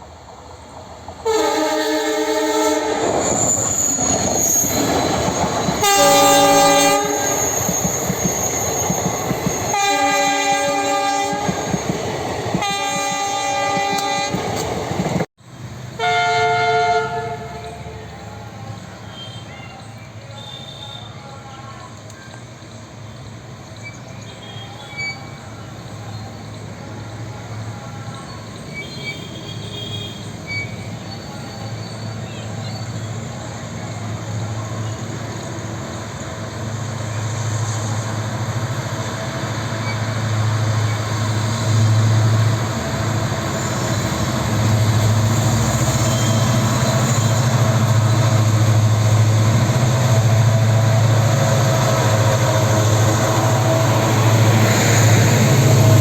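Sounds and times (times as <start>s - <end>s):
diesel locomotive engine humming: 0.0s - 56.0s.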